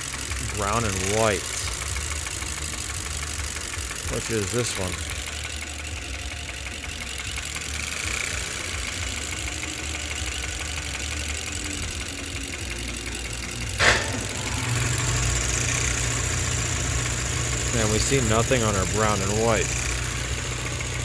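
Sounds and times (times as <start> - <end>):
engine idling with misfire: 0.0 - 21.0.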